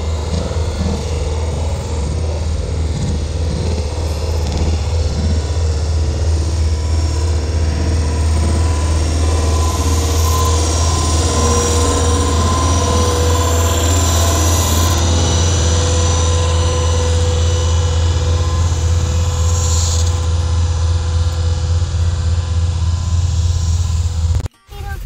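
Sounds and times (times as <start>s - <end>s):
train coaches rumbling past: 0.0s - 24.3s.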